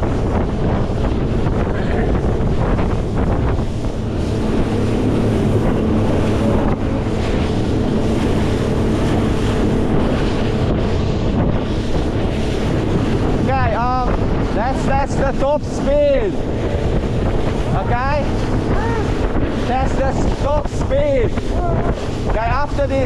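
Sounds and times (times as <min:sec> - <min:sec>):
outboard motor drone: 0:00.0 - 0:23.0
water rushing and spraying: 0:00.0 - 0:23.0
wind buffeting microphone: 0:00.0 - 0:23.0.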